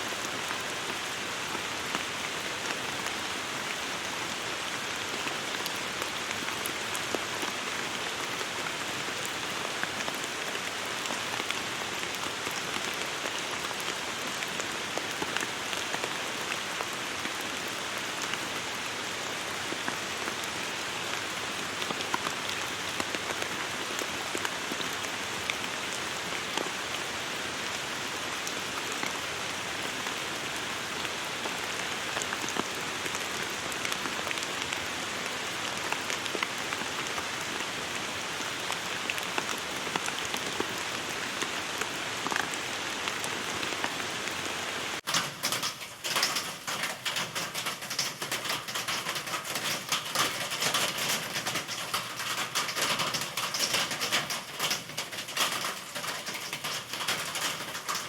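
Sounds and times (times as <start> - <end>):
pattering of raindrops: 0.0 - 58.0
steady rain hiss: 0.0 - 58.0.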